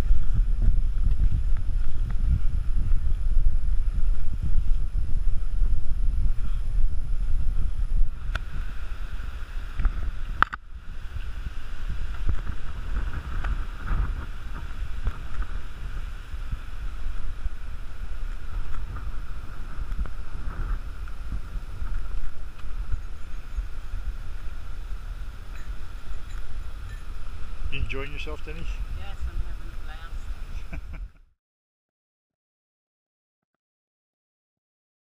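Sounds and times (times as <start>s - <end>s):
wind buffeting microphone: 0.0s - 31.2s.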